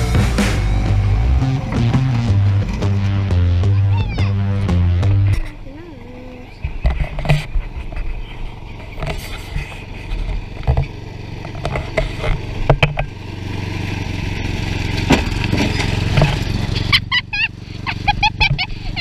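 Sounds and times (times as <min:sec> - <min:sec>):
small off-road vehicle engine: 0:00.0 - 0:19.0.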